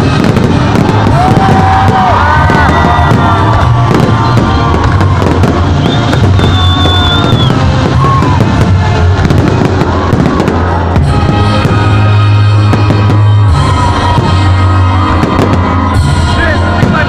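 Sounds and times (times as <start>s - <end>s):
fireworks banging and crackling: 0.0s - 17.0s
loud music with bass: 0.0s - 17.0s.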